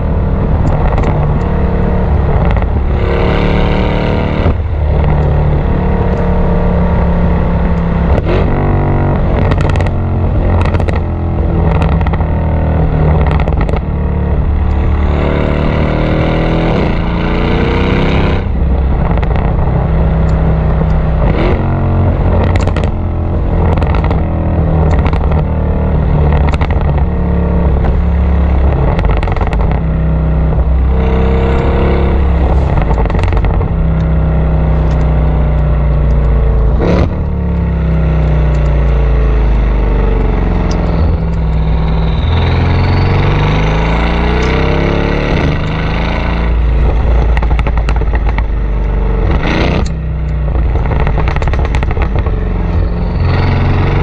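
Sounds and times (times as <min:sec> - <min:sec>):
exhaust pops and crackles: 0:00.0 - 0:15.5, 0:17.8 - 0:54.0
car engine accelerating: 0:00.0 - 0:54.0.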